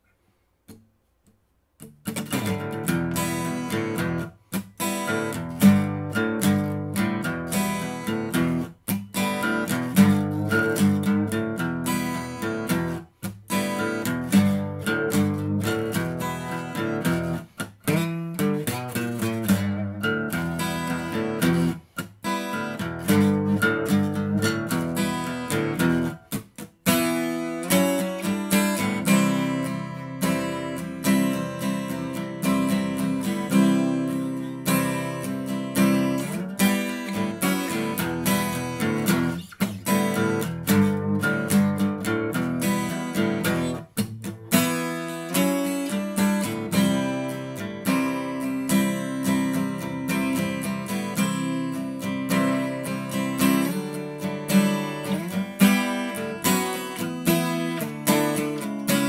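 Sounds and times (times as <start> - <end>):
acoustic guitar strumming chords: 1.8 - 59.0.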